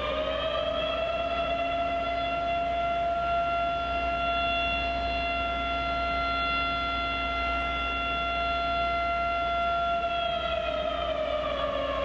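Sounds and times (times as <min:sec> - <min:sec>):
siren holding steady high tone: 0:00.0 - 0:12.0.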